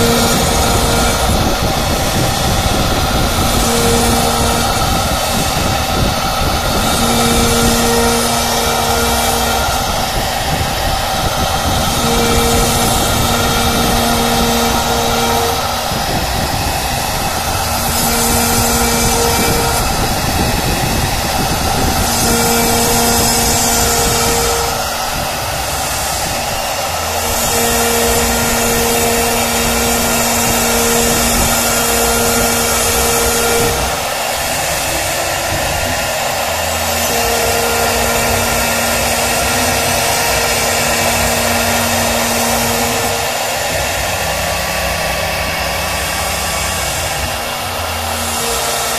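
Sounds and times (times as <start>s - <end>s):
low pitched hum: 0.0s - 48.9s
router bit carving wood: 0.0s - 48.9s
router spindle whining: 0.0s - 48.9s.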